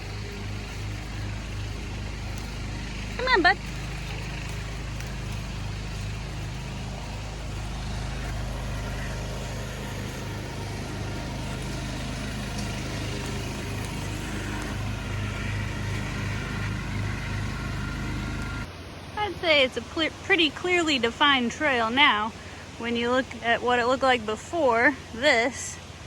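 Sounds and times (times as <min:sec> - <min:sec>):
lawn tractor engine running: 0:00.0 - 0:26.0.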